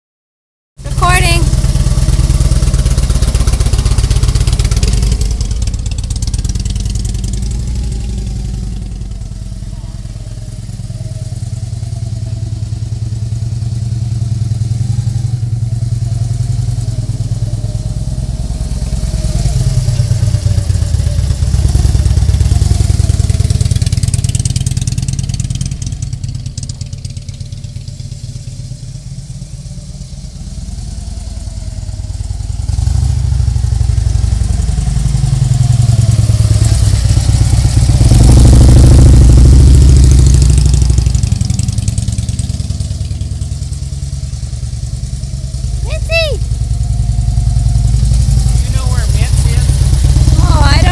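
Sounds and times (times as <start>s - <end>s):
motorcycle engine running: 0.8s - 50.9s.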